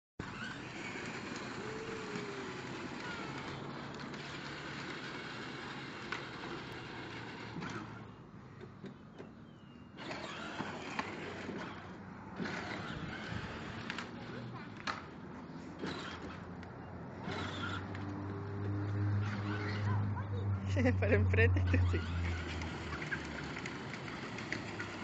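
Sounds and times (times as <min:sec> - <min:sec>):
plastic wheels rolling on pavement: 0:00.2 - 0:08.2, 0:09.4 - 0:20.1, 0:21.6 - 0:25.0
electric motors whirring: 0:00.2 - 0:09.3, 0:09.9 - 0:20.1, 0:21.2 - 0:25.0.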